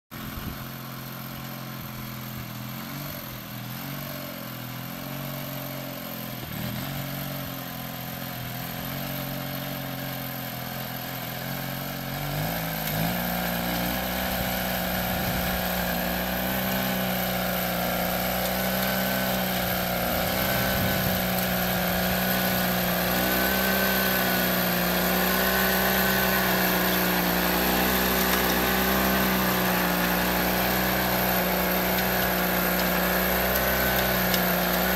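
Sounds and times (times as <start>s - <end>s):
tiller engine running: 0.1s - 34.9s
rotary tines tilling soil: 0.2s - 34.9s.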